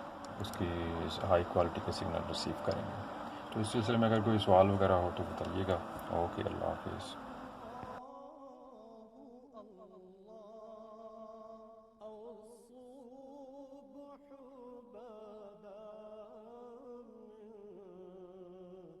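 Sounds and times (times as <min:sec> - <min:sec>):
faint chant-like music: 0:00.0 - 0:19.0.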